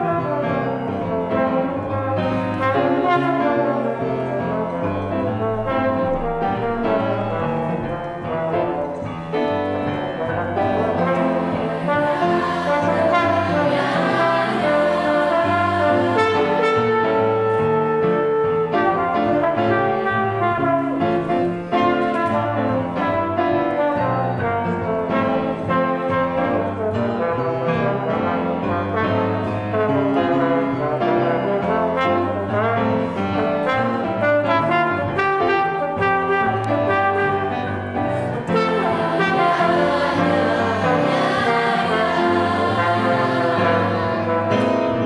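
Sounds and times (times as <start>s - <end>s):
piano accompaniment: 0.0s - 45.0s
trombone melody: 0.0s - 45.0s.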